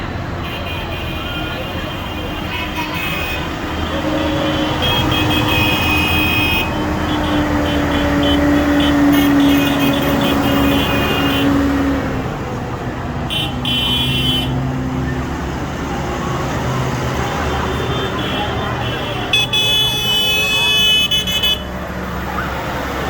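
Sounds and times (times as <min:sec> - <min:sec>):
tractor engines droning: 0:00.0 - 0:23.0.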